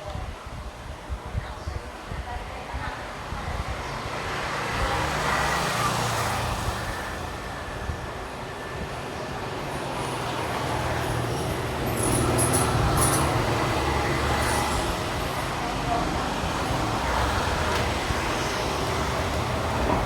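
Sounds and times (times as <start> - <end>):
road traffic rumble: 1.7 - 20.0.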